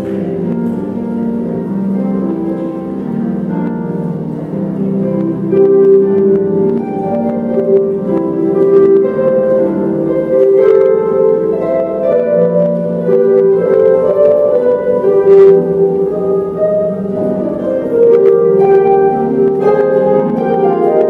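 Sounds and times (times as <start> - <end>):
harp ensemble playing: 0.0 - 21.0.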